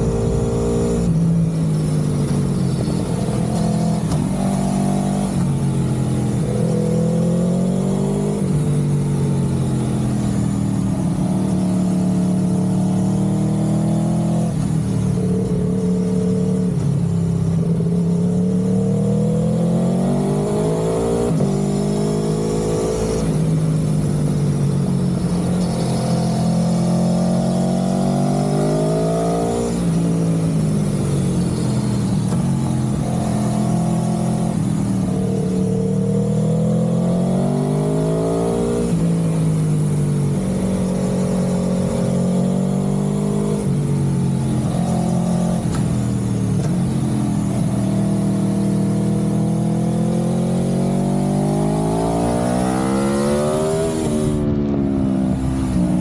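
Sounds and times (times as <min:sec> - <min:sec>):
low road rumble: 0:00.0 - 0:56.0
vehicle engine accelerating: 0:00.0 - 0:56.0.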